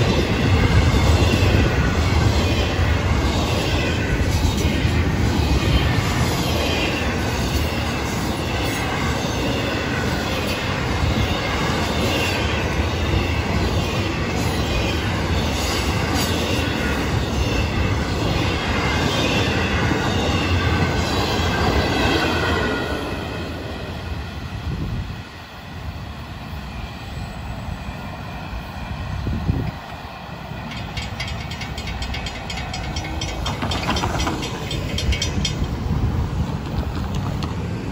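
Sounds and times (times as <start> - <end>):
high squeal of train wheels: 0.0 - 37.2
train wheels rolling on rails: 0.0 - 37.9.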